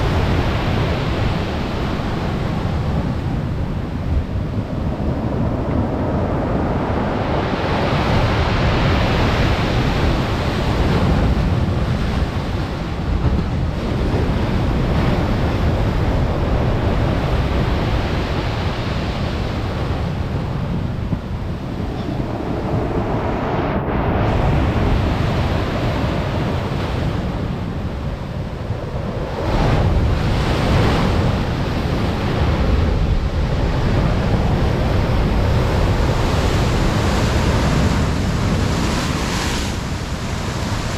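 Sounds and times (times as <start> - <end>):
surf breaking on shore: 0.0 - 40.9
wind buffeting microphone: 0.0 - 40.9.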